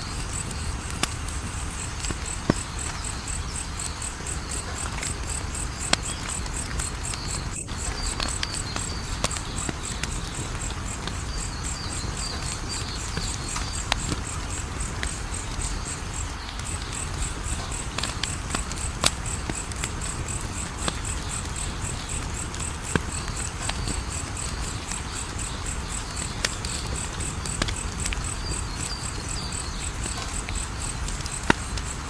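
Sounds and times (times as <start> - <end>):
insect chirping: 0.0 - 32.0
wood fire crackling: 0.0 - 32.0.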